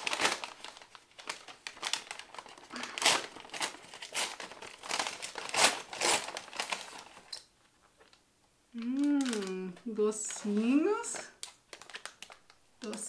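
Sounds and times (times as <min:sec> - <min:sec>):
paper bag crinkling and rustling: 0:00.0 - 0:08.2, 0:08.8 - 0:13.0.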